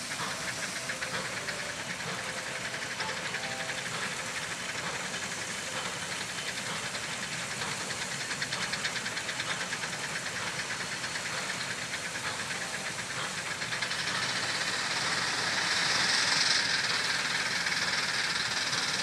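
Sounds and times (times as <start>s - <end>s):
steam engine exhaust chuffing: 0.0s - 19.0s.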